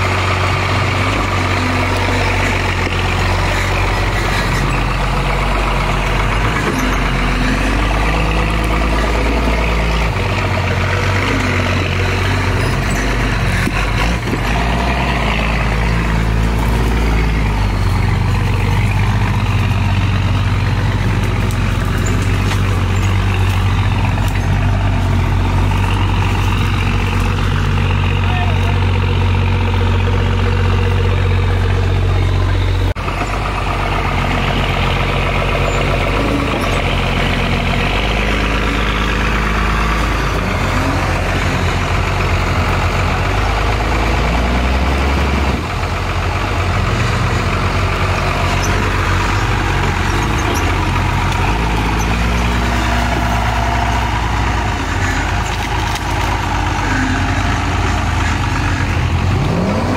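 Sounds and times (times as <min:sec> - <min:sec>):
off-road engines revving: 0:00.0 - 0:59.9.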